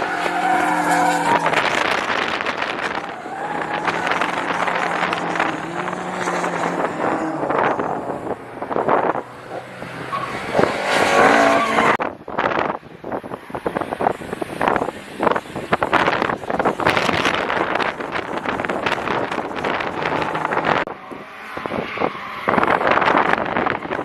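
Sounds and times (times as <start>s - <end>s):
racing car engines revving: 0.0s - 24.0s
wind buffeting microphone: 0.0s - 24.0s.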